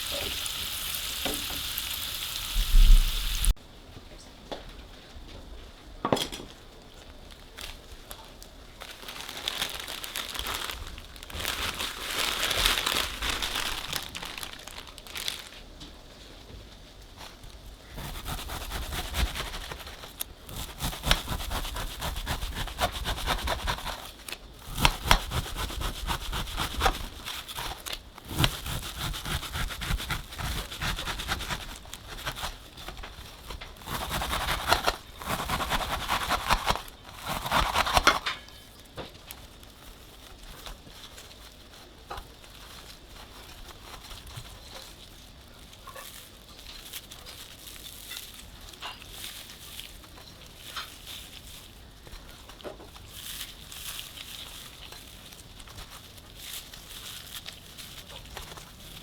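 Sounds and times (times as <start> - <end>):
dry pastry strands crinkling: 7.2 - 15.9, 17.2 - 59.0.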